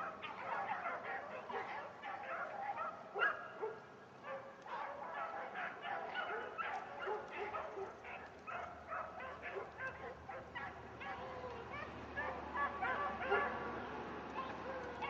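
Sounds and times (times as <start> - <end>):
hounds baying and yelping: 0.0 - 15.0.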